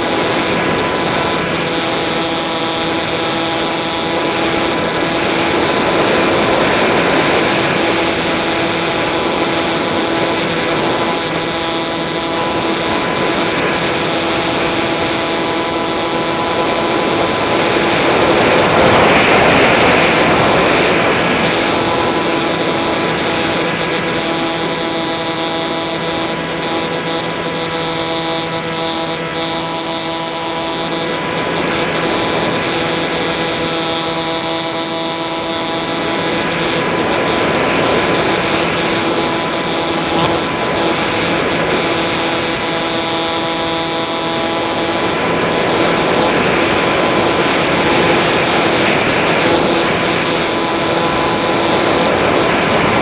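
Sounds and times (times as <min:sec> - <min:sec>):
electric motor and propeller whine: 0:00.0 - 0:53.0.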